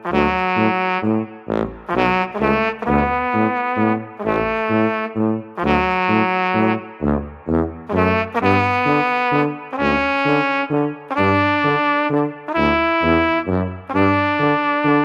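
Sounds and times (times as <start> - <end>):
bass line: 0.0 - 15.0
brass playing a tune: 0.0 - 15.0.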